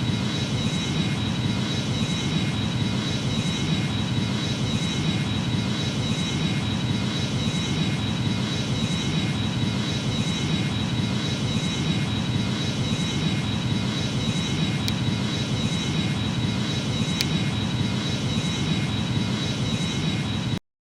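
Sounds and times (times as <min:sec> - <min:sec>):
jet engines running: 0:00.0 - 0:20.6.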